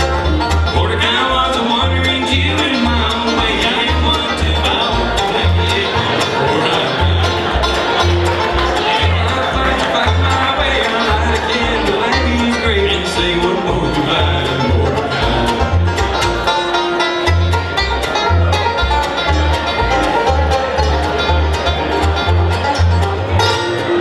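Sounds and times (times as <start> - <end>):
bluegrass band playing: 0.0 - 24.0
low bass notes: 0.0 - 24.0
plucked string picking: 0.0 - 24.0.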